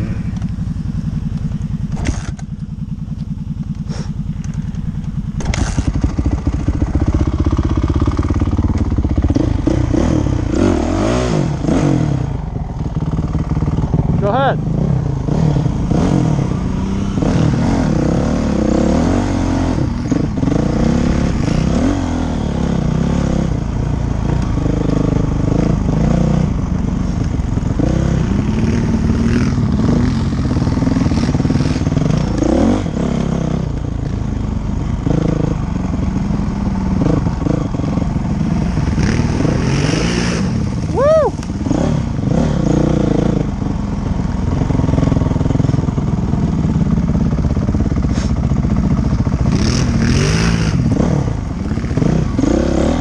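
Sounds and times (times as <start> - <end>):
dirt bike engine revving: 5.3 - 43.8, 46.5 - 53.0.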